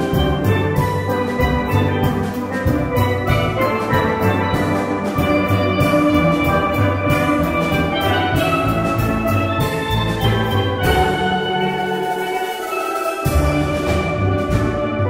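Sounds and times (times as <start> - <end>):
held chords: 0.0 - 15.0
percussion strokes: 0.0 - 15.0.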